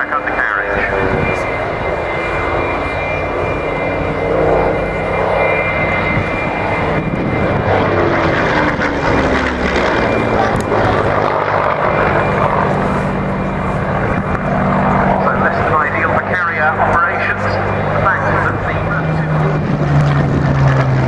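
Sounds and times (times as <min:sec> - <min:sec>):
aircraft engine flying past: 0:00.0 - 0:21.0.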